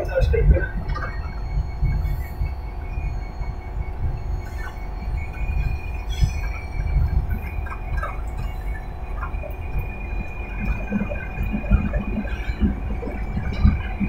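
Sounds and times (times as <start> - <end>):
faint high whine: 0.0 - 14.0
locomotive engine and wheels rumbling: 0.0 - 14.0.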